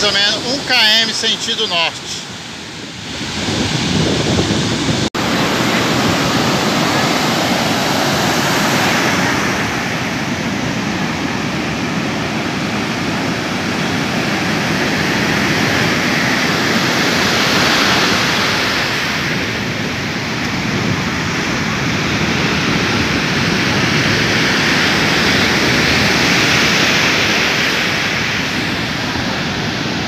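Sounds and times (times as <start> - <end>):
ocean surf breaking on beach: 0.0 - 30.0.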